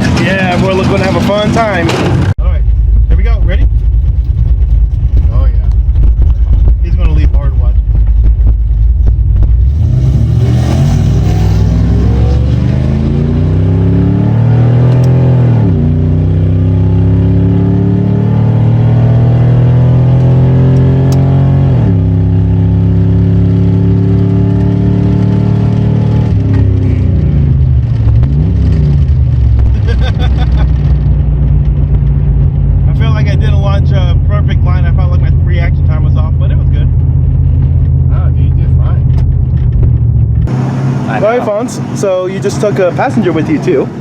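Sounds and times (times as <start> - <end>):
drag racing engine revving: 3.2 - 44.0.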